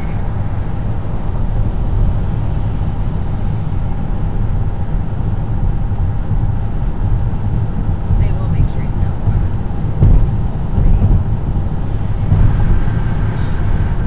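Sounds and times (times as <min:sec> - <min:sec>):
faint steady hum: 0:00.0 - 0:14.0
tyre and engine rumble: 0:00.0 - 0:14.0.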